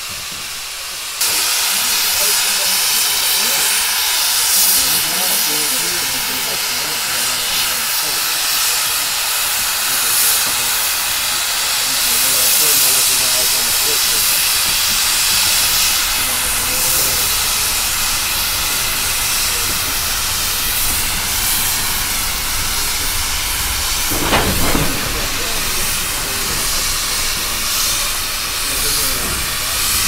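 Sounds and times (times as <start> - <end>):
steam train hiss and rumble: 0.0 - 30.0.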